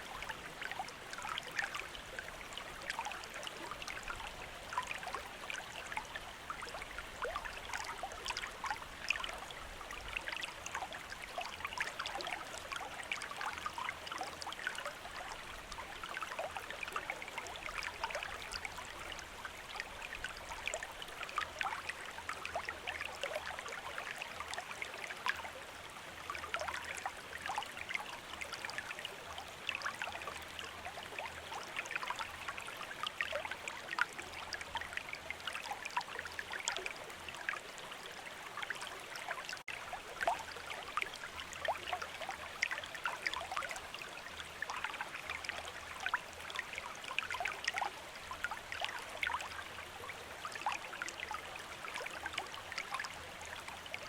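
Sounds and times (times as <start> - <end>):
river water babbling over stones: 0.0 - 54.0.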